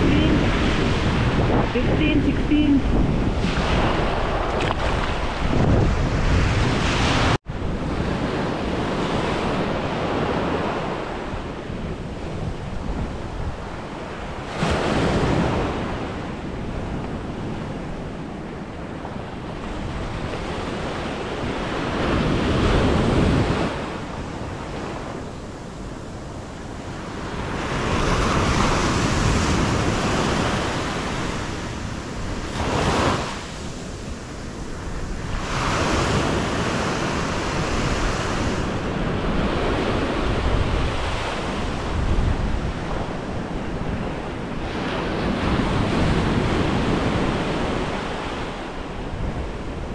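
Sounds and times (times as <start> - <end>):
ocean surf breaking: 0.0 - 49.9
wind buffeting microphone: 0.0 - 49.9.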